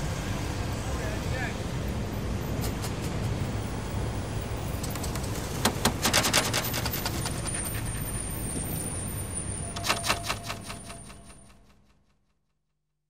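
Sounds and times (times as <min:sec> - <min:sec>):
city traffic rumble: 0:00.0 - 0:12.2.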